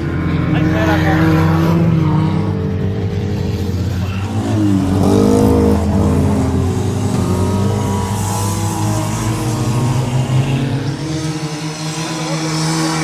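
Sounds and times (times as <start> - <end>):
stock car engines revving: 0.0 - 13.0.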